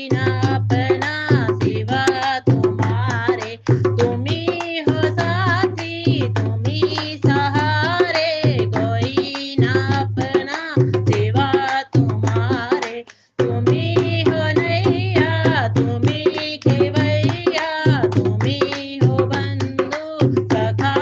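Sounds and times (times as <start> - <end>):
tabla drumming: 0.0 - 21.0.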